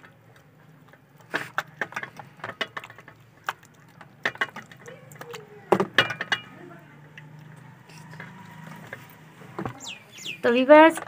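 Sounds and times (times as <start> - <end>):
hands squelching marinade: 0.0 - 11.0.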